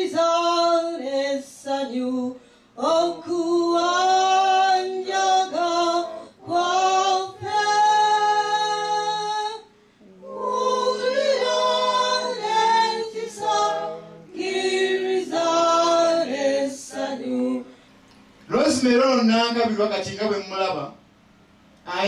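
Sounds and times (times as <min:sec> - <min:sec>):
choir singing a hymn: 0:00.0 - 0:17.8.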